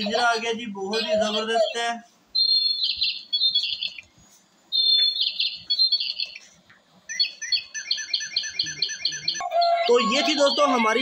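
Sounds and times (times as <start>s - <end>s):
electronic toy birdsong chirps: 0.0s - 4.1s, 4.7s - 6.4s, 7.1s - 11.0s.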